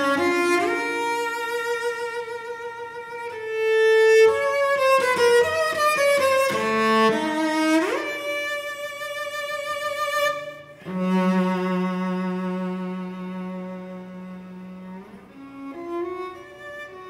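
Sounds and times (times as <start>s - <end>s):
cello and violin ensemble: 0.0s - 17.0s.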